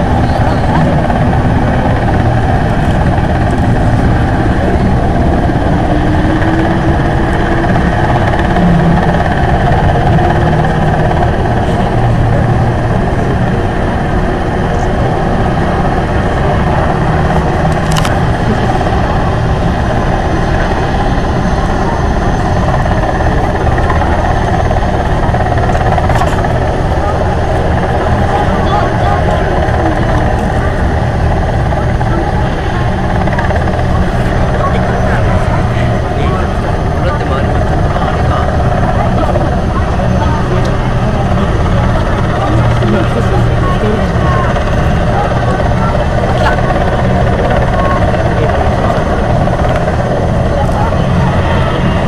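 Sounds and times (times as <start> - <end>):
turboprop engines droning: 0.0 - 52.0.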